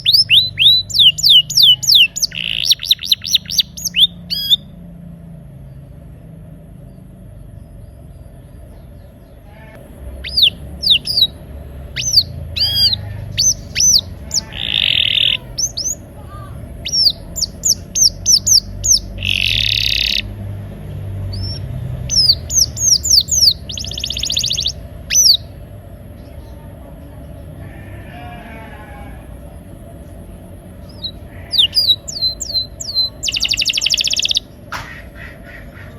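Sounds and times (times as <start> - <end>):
canary singing: 0.0 - 5.1, 8.6 - 35.9
steady low hum: 0.0 - 35.9.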